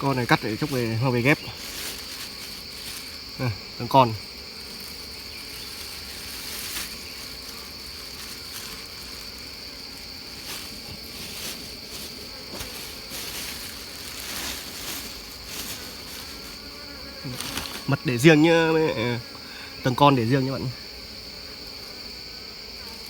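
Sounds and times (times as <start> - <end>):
bees buzzing: 0.0 - 23.0
insects droning: 0.0 - 23.0.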